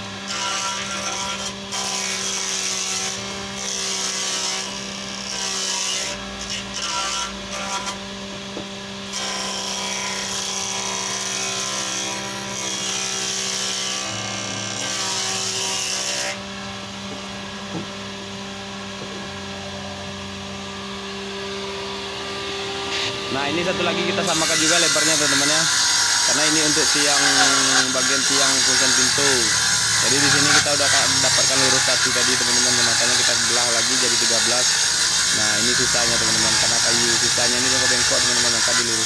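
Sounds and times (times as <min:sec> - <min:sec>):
circular saw cutting wood: 0:00.0 - 0:39.0
saw motor running: 0:00.0 - 0:39.0.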